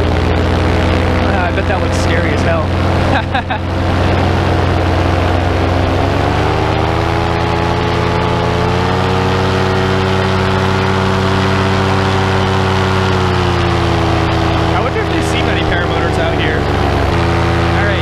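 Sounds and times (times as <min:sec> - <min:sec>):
paramotor engine running: 0:00.0 - 0:18.0.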